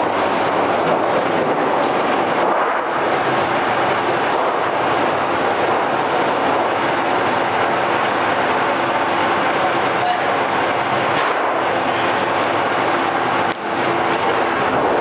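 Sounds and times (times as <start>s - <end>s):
roll-forming machine metallic rattle: 0.0s - 15.0s.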